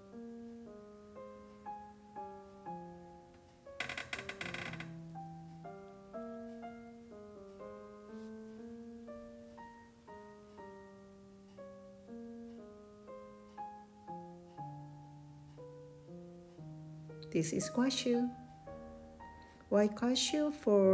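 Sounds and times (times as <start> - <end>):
soft piano music: 0.0 - 20.9.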